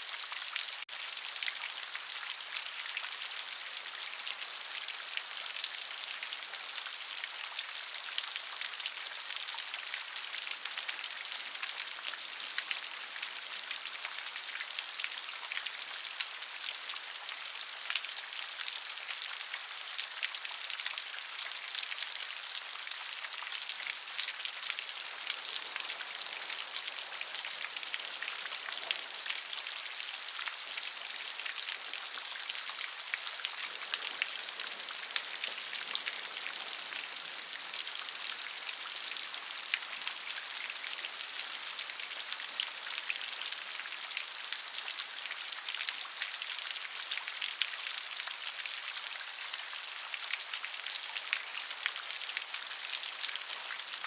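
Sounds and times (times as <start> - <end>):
rain patter and hiss: 0.0 - 54.0.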